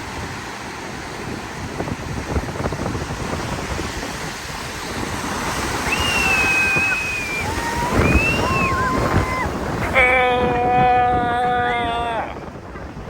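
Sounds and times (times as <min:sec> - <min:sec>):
ocean surf washing onto beach: 0:00.0 - 0:13.0
wind buffeting microphone: 0:00.0 - 0:13.0.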